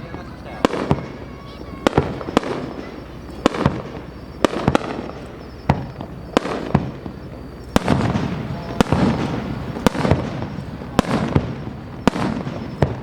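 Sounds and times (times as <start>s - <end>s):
firework shells bursting: 0.0s - 13.0s.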